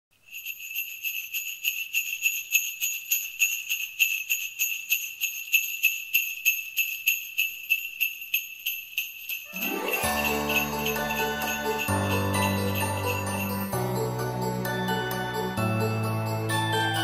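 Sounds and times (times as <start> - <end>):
sleigh bells jingling: 0.2 - 17.0.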